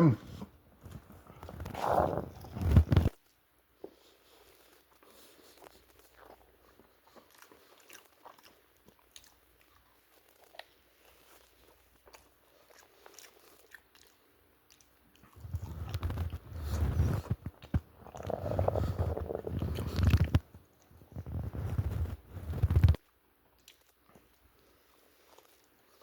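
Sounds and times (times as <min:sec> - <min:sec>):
person chewing chicken wings: 0:03.9 - 0:26.0.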